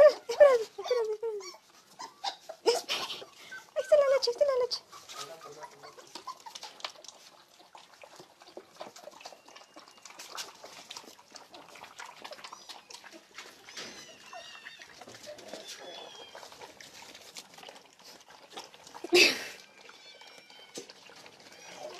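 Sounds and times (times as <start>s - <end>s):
puppies whimpering: 0.0s - 16.8s, 18.0s - 21.9s
puppies lapping milk: 0.0s - 21.9s.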